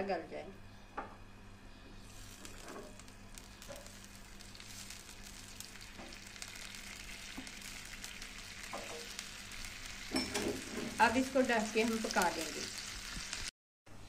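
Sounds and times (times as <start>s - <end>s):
chicken sizzling in oil: 2.0s - 13.5s.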